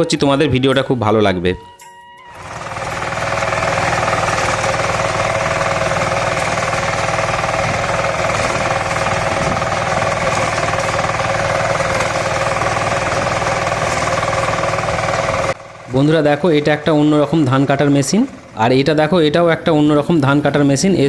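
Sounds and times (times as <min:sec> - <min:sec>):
reaper engine humming: 0:00.0 - 0:21.0
fast mechanical rattle: 0:02.4 - 0:21.0.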